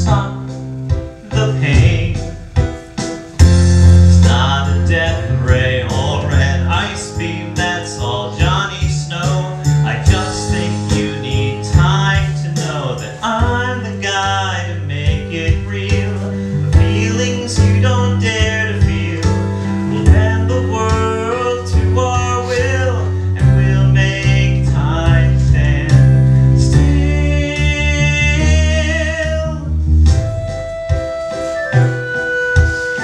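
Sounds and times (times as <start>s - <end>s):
person singing: 0.0s - 2.6s, 4.0s - 29.7s
guitar and piano accompaniment: 0.0s - 33.0s.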